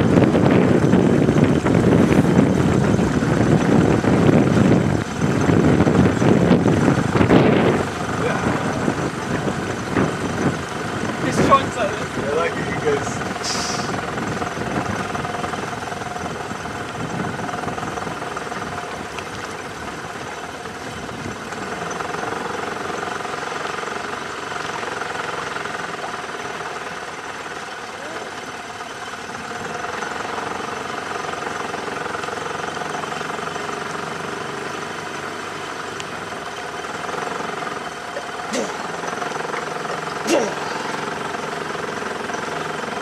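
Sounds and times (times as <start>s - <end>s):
boat engine idling: 0.0s - 43.0s.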